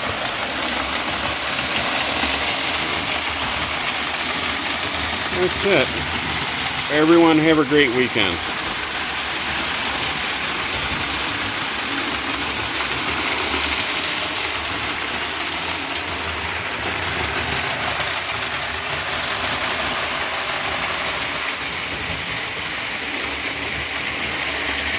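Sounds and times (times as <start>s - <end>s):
model train running on track: 0.0s - 24.9s.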